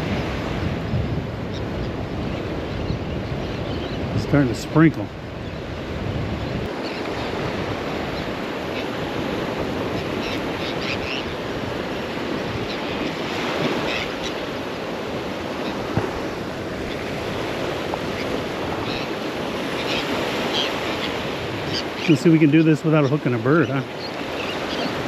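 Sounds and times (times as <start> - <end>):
wind buffeting microphone: 0.0 - 22.5
surf washing onto beach: 0.0 - 25.0.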